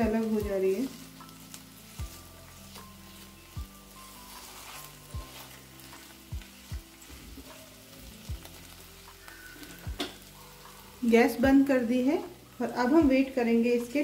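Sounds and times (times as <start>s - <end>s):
masala sizzling in a pan: 0.0s - 14.0s.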